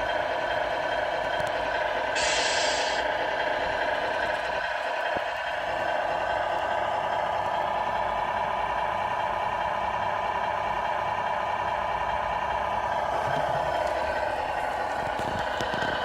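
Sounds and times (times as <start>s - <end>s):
model truck droning: 0.0s - 16.0s.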